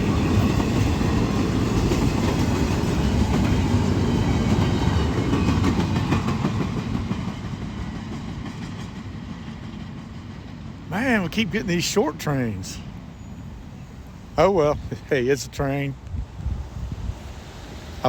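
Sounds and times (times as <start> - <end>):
freight train rolling on rails: 0.0 - 18.0.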